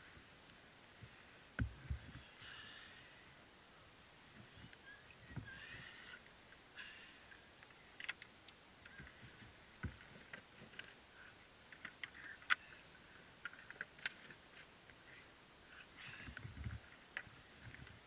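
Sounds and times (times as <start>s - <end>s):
embers crackling faintly: 0.0s - 18.0s.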